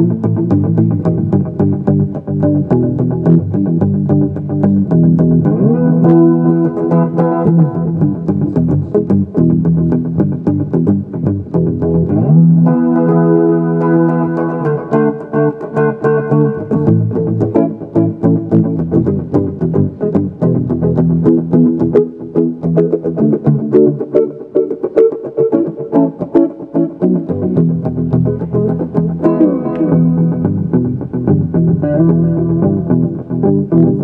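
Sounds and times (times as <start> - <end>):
electric guitar chords: 0.0 - 34.0.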